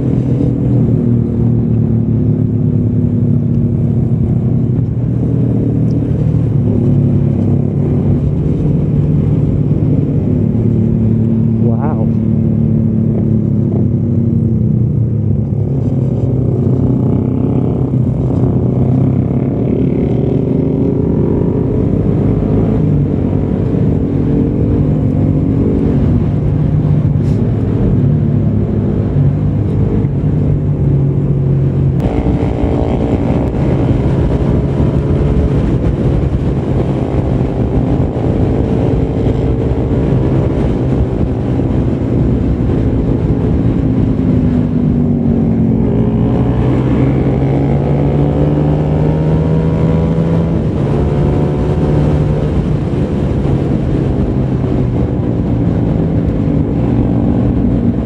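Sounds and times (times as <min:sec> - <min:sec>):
motorcycle engine accelerating: 0:00.0 - 0:58.0
wind noise on microphone: 0:00.0 - 0:58.0.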